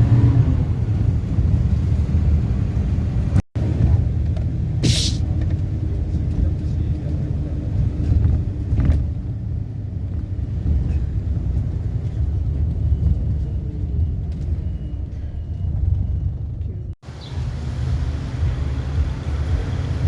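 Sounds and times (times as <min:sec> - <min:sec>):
vehicle low rumble: 0:00.0 - 0:20.0.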